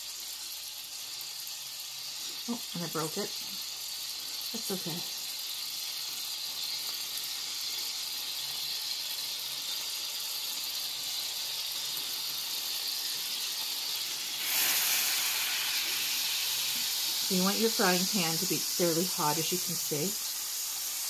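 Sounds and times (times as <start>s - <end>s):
margarine sizzling in a frying pan: 0.0s - 21.0s.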